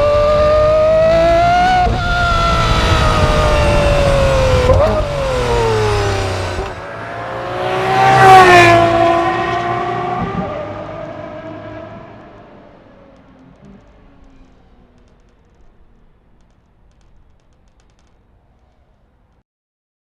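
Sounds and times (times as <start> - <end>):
sports car engines driving past: 0.0 - 19.3.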